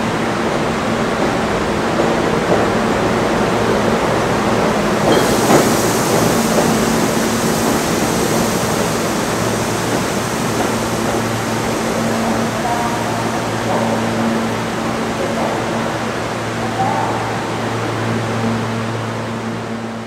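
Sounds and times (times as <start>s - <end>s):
subway train wheels rumbling: 0.0s - 20.0s
train hiss: 2.3s - 19.8s.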